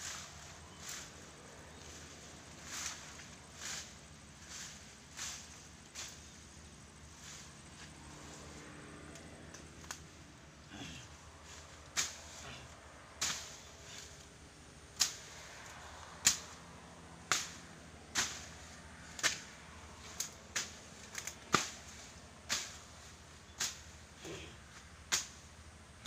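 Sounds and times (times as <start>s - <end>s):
blade swishing through grass: 0.0s - 10.2s, 10.8s - 14.4s, 15.0s - 25.4s.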